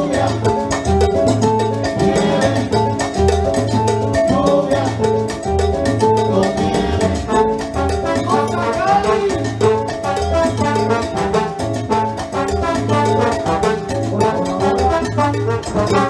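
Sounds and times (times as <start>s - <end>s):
salsa band playing: 0.0s - 16.0s.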